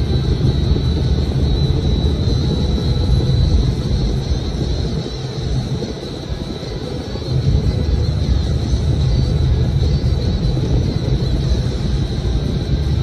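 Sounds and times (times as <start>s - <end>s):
car engine and road drone: 0.0s - 13.0s
faint high whine: 0.0s - 13.0s.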